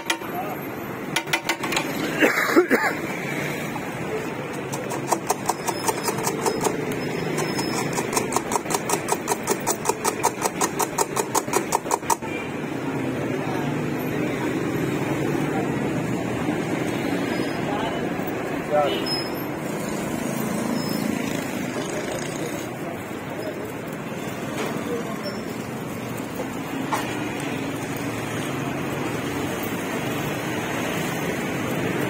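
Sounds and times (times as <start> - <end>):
motorbike engines: 0.0 - 32.0
street traffic: 0.0 - 32.0.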